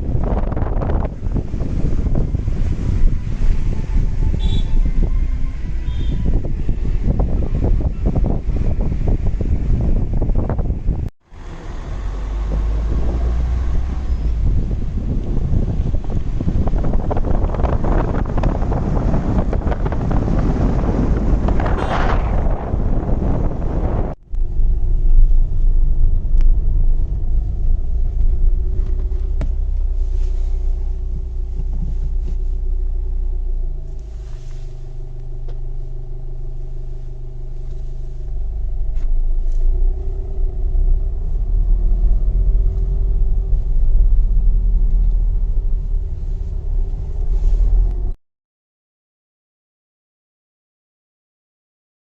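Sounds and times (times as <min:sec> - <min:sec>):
car road noise and engine rumble: 0:00.0 - 0:48.2.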